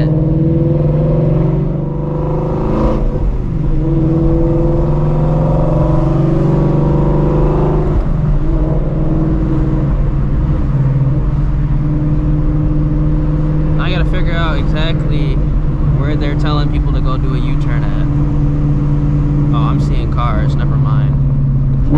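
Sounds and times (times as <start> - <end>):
car engine running: 0.0 - 21.9.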